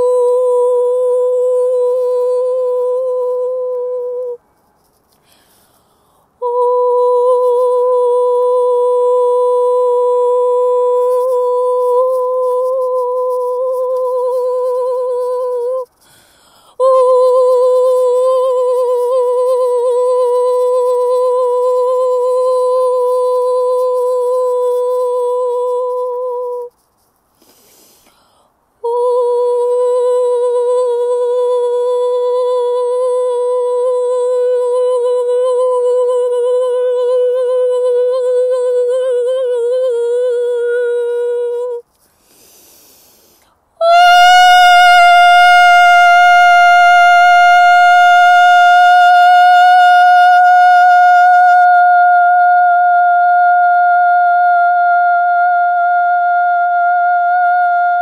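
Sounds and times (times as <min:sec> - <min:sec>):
person humming sustained notes: 0:00.0 - 0:04.4, 0:06.4 - 0:16.0, 0:16.8 - 0:26.8, 0:28.8 - 0:58.0.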